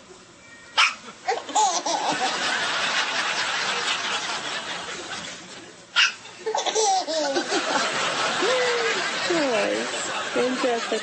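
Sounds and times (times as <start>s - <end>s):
people laughing: 1.4s - 11.0s.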